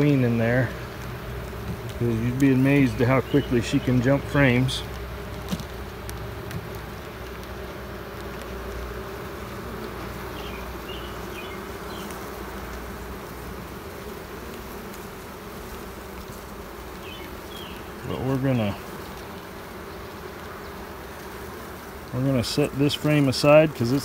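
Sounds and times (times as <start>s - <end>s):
honeybees humming: 0.0s - 24.0s.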